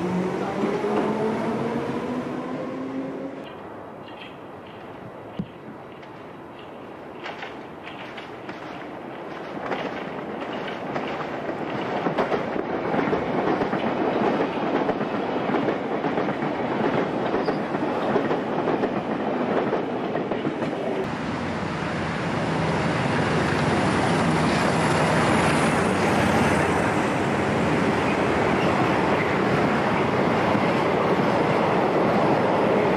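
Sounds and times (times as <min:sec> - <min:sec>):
train running on rails: 0:00.0 - 0:32.9.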